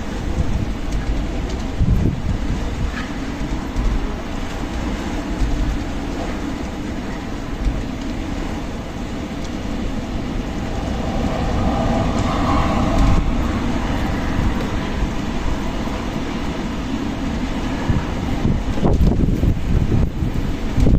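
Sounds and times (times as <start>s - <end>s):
strong wind with low rumble: 0.0s - 20.9s.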